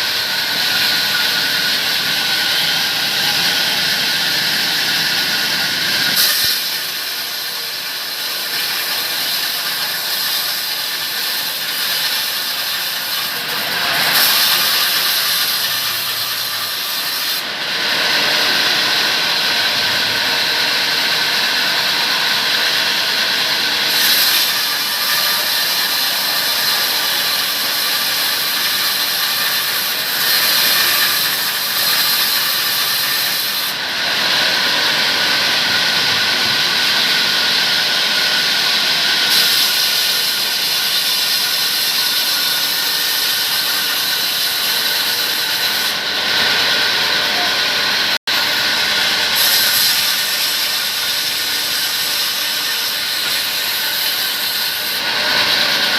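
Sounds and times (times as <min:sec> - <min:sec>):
saw rasping whine: 0:00.0 - 0:55.9.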